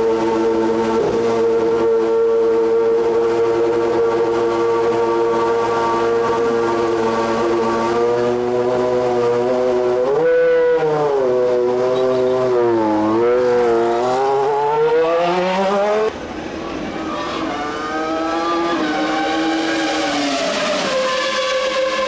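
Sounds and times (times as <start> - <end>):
racing car engine at high revs: 0.0 - 22.0.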